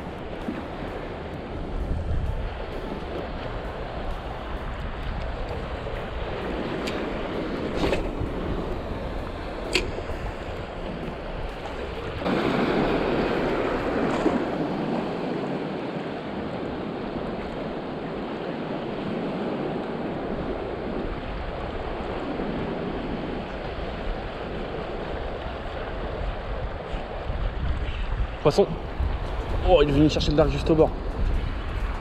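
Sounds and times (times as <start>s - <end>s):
small sea waves washing: 0.0s - 32.0s
wind on microphone: 0.0s - 32.0s.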